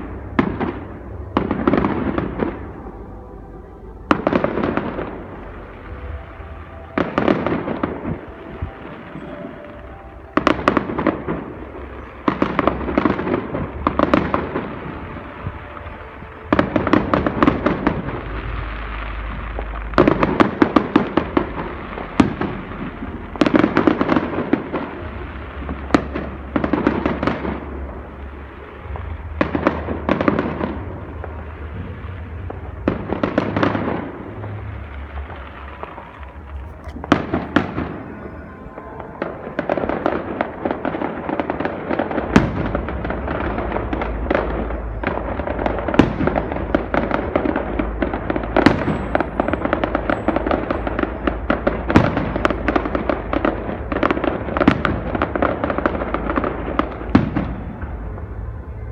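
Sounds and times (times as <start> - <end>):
fireworks crackling: 0.0 - 58.9
low rumble: 0.0 - 58.9.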